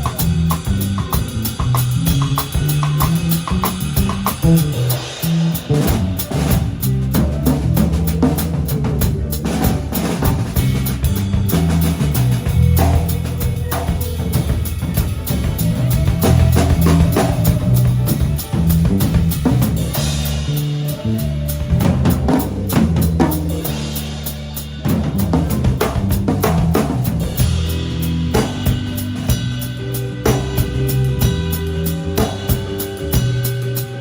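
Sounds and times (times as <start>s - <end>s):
drum kit groove: 0.0s - 34.0s
electric bass line: 0.0s - 34.0s.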